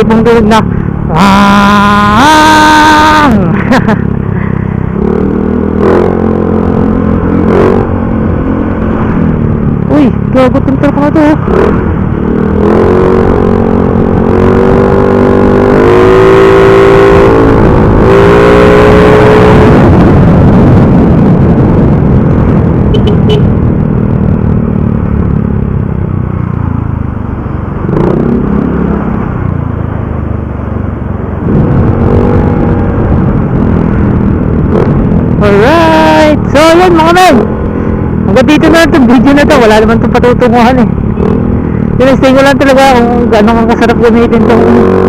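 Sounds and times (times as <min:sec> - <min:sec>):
motorcycle exhaust accelerating: 0:00.0 - 0:45.0
rushing wind and road noise: 0:00.0 - 0:45.0.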